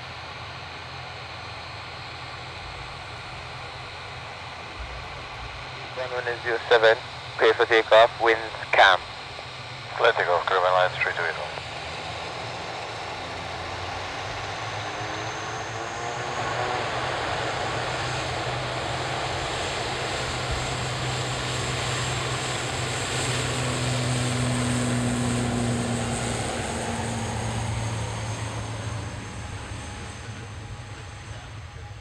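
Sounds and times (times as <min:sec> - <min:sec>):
turboprop airliner taking off: 0:00.0 - 0:32.0.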